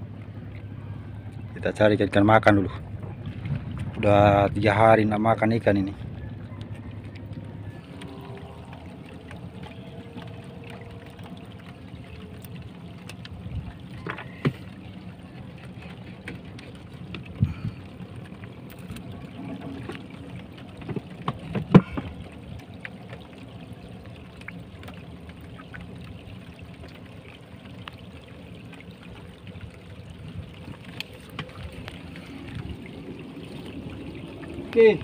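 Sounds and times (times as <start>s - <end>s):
water washing: 0.0s - 35.0s.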